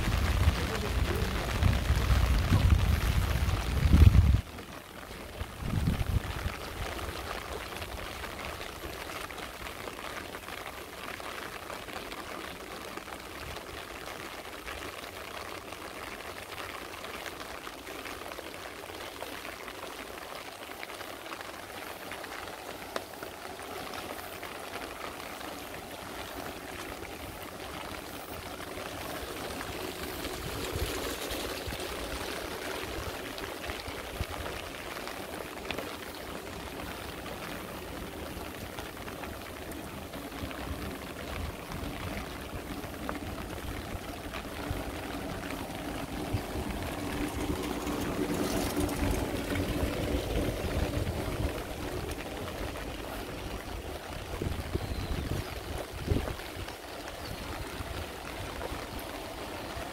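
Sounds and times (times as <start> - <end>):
rain drops ticking: 0.0 - 59.9
running water: 0.0 - 59.9.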